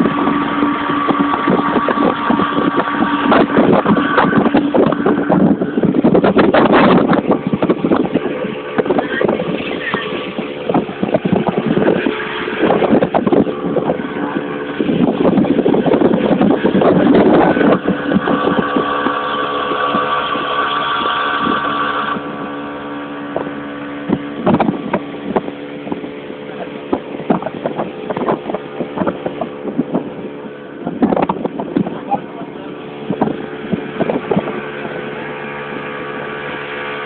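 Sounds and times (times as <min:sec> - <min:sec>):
engine running under load: 0:00.0 - 0:37.0.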